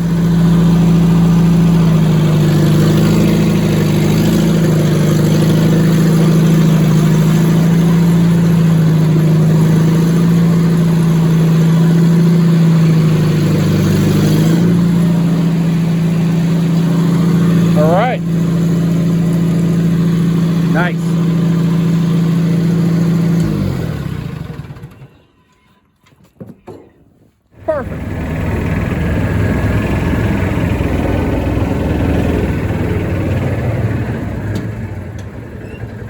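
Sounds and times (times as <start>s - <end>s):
tractor engine running at low speed: 0.0s - 25.2s, 27.6s - 36.0s.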